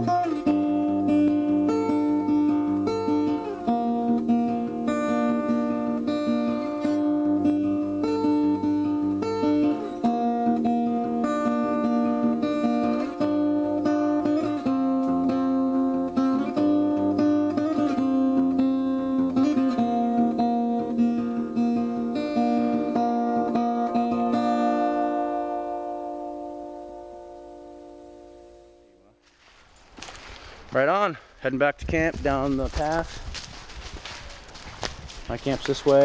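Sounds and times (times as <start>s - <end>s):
acoustic guitar strumming chords: 0.0s - 29.2s.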